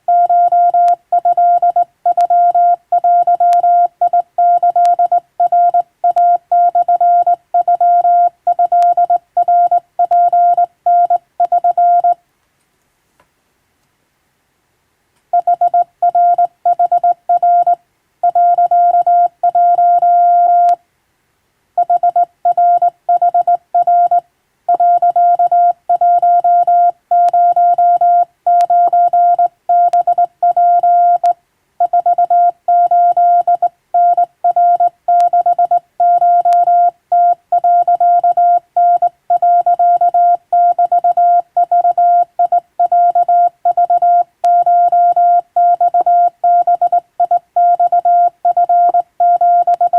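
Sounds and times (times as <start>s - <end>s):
morse code tone: 0.1s - 12.2s, 15.4s - 20.8s, 21.8s - 49.9s.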